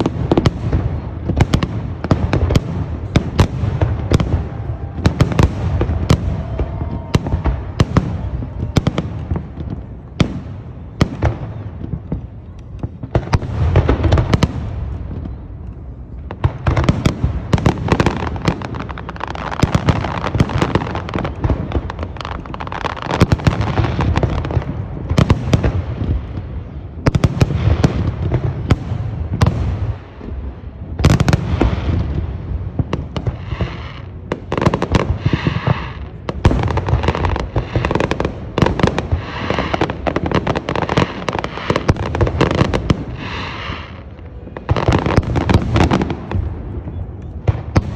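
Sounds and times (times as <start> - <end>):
fireworks booming bursts: 0.0 - 47.9
fireworks crackling: 0.0 - 47.9.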